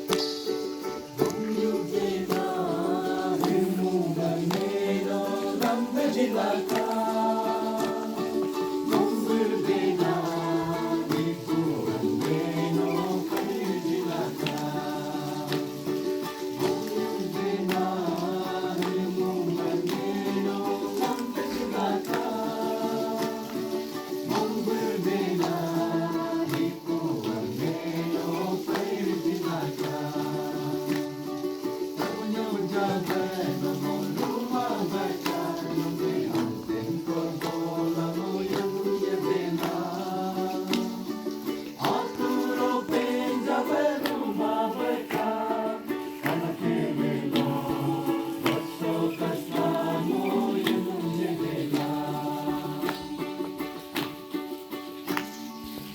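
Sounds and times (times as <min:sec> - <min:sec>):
strummed acoustic string instrument: 0:00.0 - 0:55.9
voices singing gospel song: 0:00.0 - 0:55.9.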